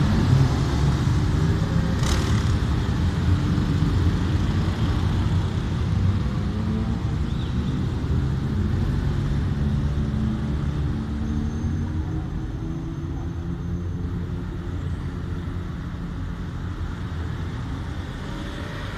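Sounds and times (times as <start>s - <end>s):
vehicle engines rumbling: 0.0s - 18.9s.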